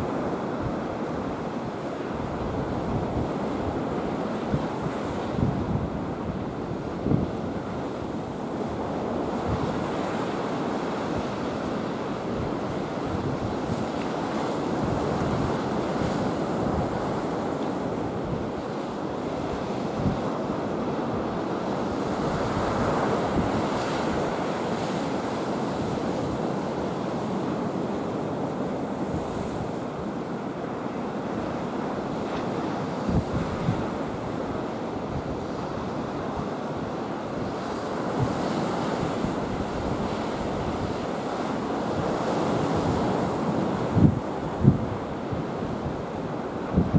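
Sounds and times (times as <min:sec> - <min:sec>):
wind buffeting microphone: 0:02.2 - 0:29.8, 0:32.2 - 0:46.9.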